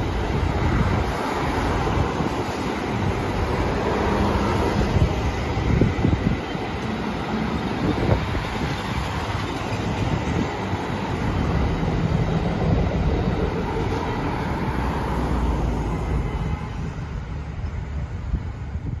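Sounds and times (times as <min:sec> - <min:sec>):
cars driving past: 0:00.0 - 0:18.8
train rolling over overpass: 0:00.0 - 0:19.0.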